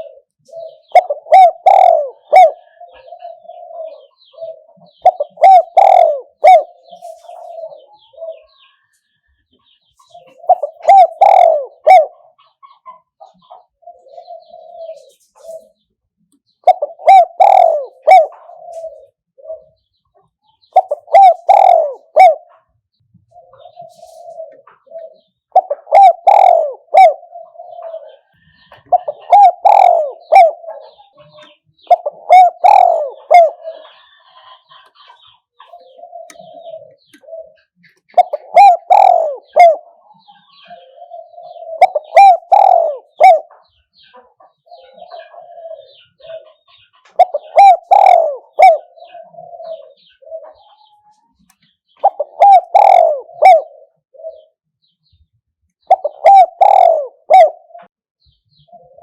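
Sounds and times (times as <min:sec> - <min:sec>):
dove cooing: 0:00.0 - 0:08.9, 0:10.0 - 0:15.8, 0:16.6 - 0:54.6, 0:55.8 - 0:57.9, 0:58.5 - 0:59.0.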